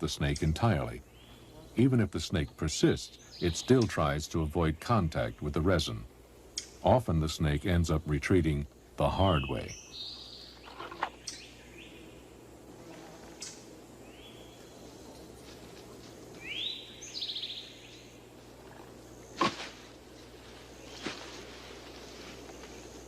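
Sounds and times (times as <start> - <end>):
faint outdoor ambience: 0.0 - 23.0.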